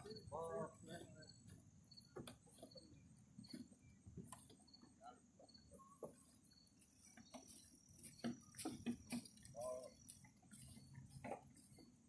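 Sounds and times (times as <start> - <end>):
faint steady high tone: 0.0 - 8.5, 9.4 - 11.8.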